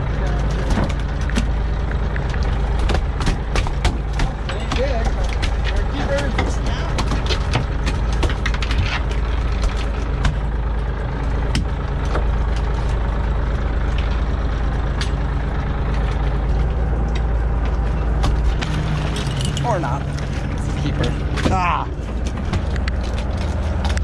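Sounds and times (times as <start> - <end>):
boat engine droning: 0.0 - 24.0
sharp clicks and knocks: 0.3 - 10.5, 11.2 - 13.1, 15.8 - 24.0.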